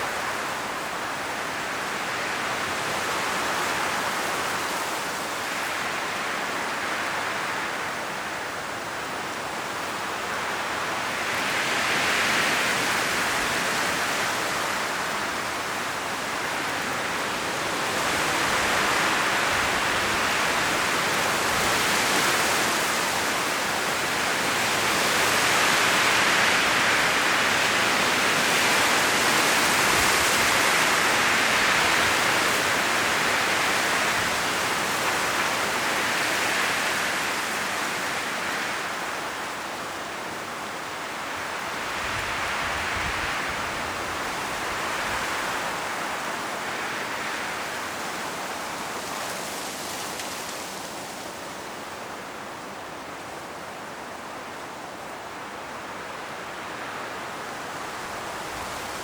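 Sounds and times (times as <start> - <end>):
wind rustling tree leaves: 0.0 - 59.0.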